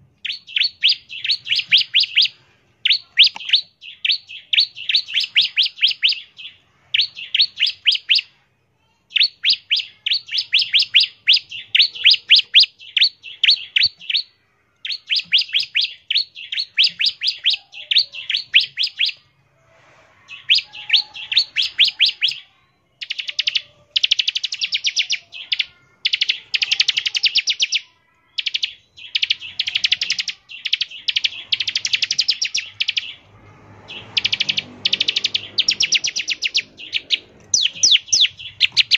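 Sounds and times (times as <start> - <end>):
bird chirping rapid bursts: 0.0 - 19.3, 20.3 - 38.9.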